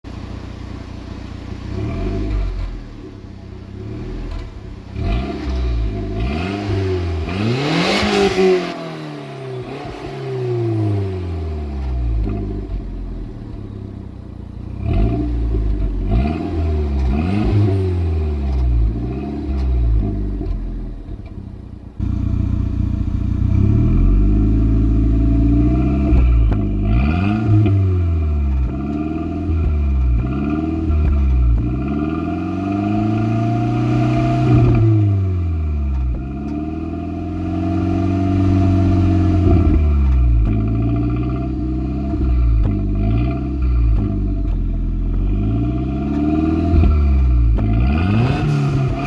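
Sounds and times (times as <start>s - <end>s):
car engine revving: 1.4s - 49.0s.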